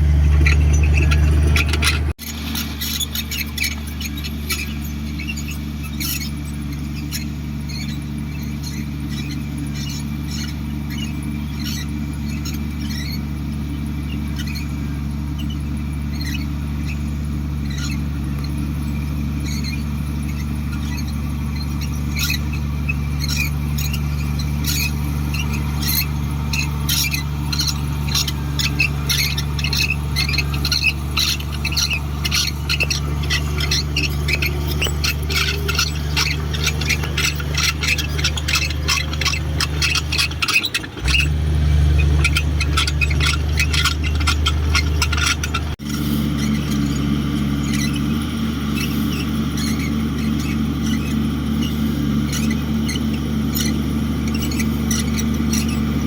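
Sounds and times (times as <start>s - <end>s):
heavy diesel engine droning: 0.0s - 56.0s
short high squeaks and clicks: 0.0s - 56.0s.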